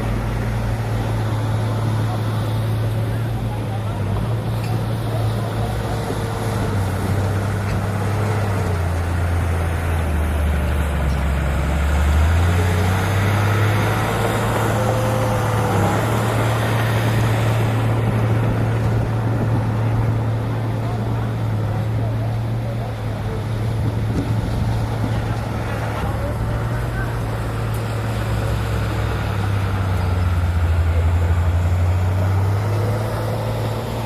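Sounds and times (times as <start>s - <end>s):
heavy diesel engine under load: 0.0s - 34.0s.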